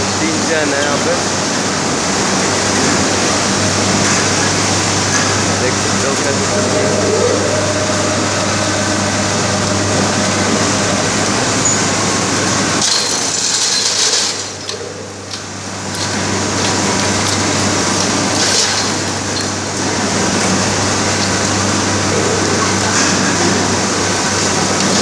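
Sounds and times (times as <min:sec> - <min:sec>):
low machinery hum: 0:00.0 - 0:25.0
mill machinery din: 0:00.0 - 0:25.0
metallic clatters: 0:03.9 - 0:25.0.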